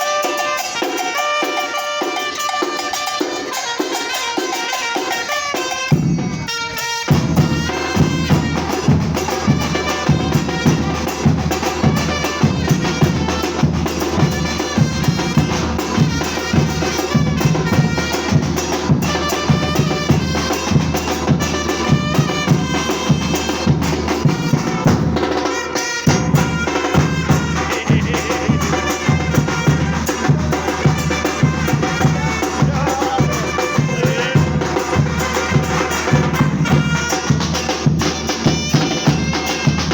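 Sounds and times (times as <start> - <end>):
percussion ensemble drumming: 0.0 - 39.9.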